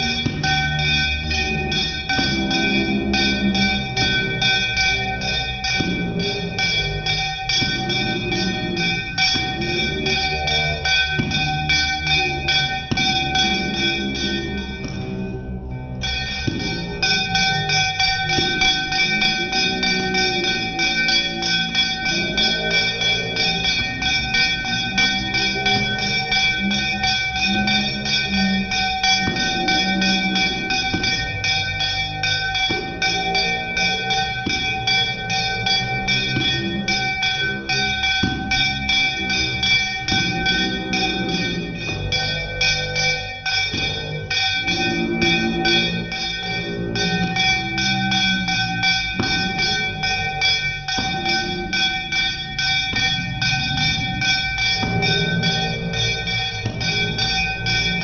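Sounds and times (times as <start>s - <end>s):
bell ringing rapidly: 0.0s - 58.0s.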